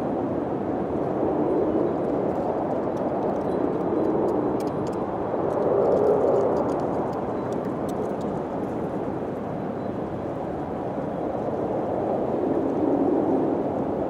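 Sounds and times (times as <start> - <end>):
wind blowing: 0.0 - 14.0.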